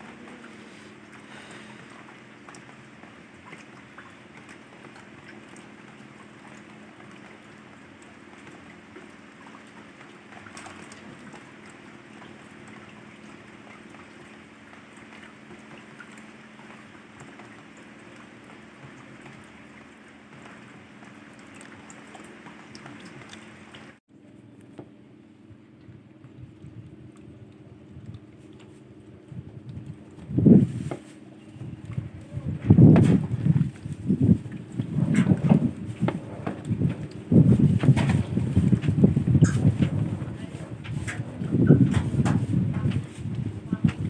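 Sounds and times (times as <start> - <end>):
low steady hum: 0.0 - 44.0
steady watery noise: 0.0 - 44.0.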